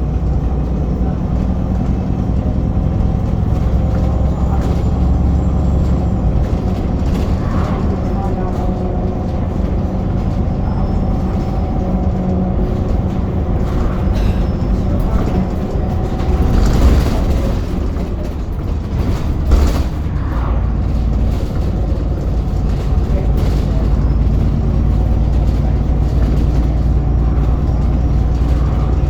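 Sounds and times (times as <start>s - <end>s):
bus engine running: 0.0s - 29.0s
bus jolts: 0.0s - 29.0s.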